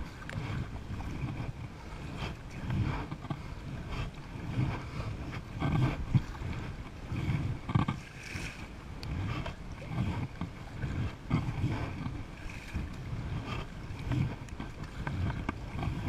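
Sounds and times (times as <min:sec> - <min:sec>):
kayak paddle splashing: 0:00.0 - 0:16.0
wind buffeting microphone: 0:00.0 - 0:16.0.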